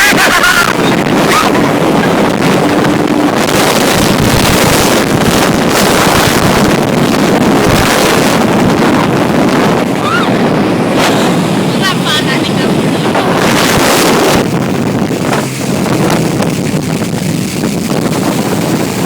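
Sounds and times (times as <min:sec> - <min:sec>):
jet ski engine: 0:00.0 - 0:19.0
wind buffeting microphone: 0:00.0 - 0:19.0.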